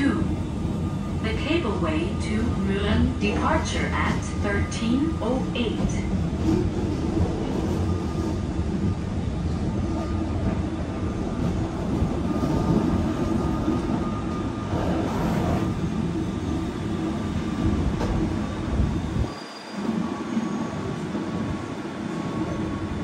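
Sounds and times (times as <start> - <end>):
train rumbling inside carriage: 0.0 - 23.0.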